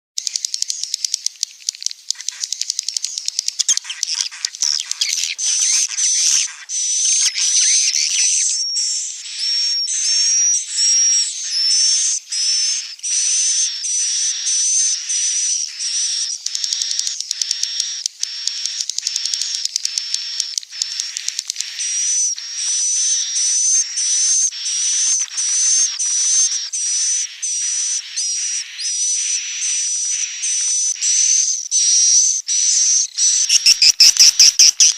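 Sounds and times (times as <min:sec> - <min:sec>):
swiftlets chirping and twittering: 0:00.2 - 0:34.9.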